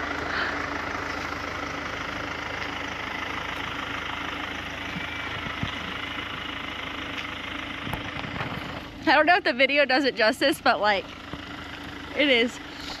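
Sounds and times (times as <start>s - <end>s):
vehicle engine humming at low revs: 0.0s - 13.0s.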